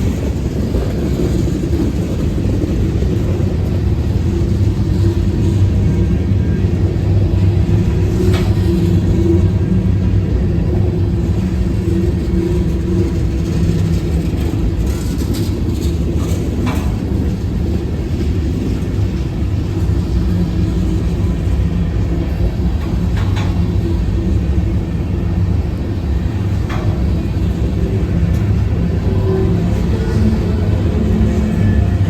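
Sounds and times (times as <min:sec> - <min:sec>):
diesel locomotives rumbling: 0:00.0 - 0:32.0.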